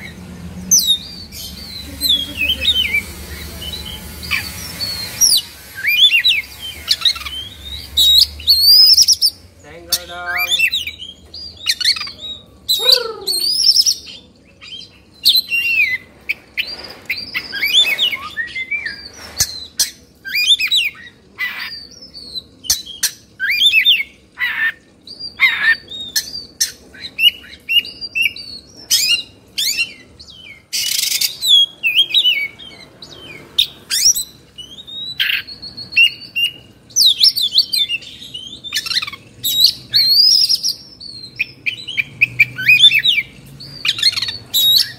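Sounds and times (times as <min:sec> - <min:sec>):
magpie-robin singing: 0:00.0 - 0:44.9.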